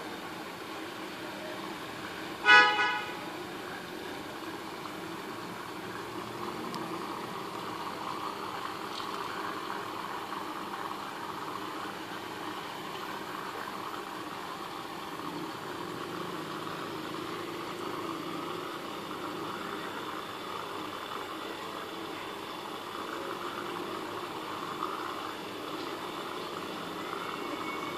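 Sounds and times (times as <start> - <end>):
aquarium pump humming: 0.0 - 27.9.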